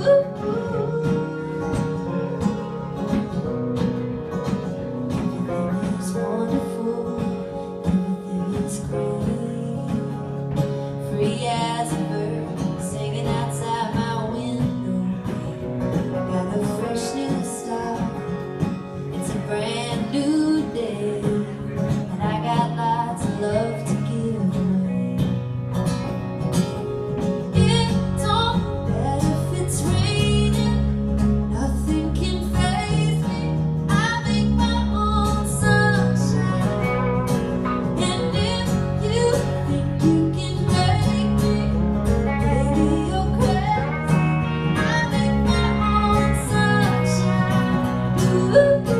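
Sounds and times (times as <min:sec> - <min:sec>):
guitar bending melodic lines: 0:00.0 - 0:48.9
live band music: 0:00.0 - 0:48.9.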